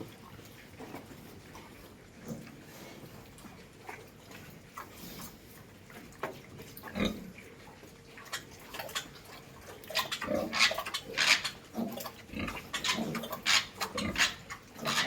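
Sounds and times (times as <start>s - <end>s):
pigs grunting and snuffling: 0.0s - 15.0s.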